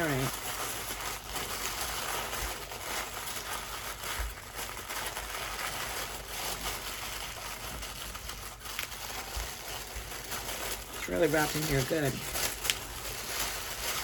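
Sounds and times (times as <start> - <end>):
wrapping crinkling and rustling: 0.0 - 14.0.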